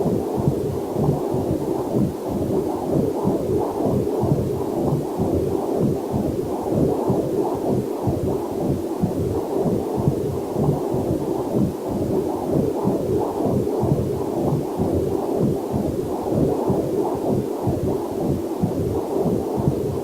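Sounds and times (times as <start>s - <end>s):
fast heartbeat pulse: 0.0s - 20.0s.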